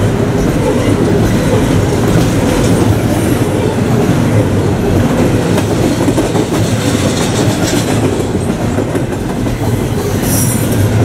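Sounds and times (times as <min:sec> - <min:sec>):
freight cars rumbling and rattling: 0:00.0 - 0:11.0
wheels clickety-clacking over rail: 0:00.1 - 0:11.0.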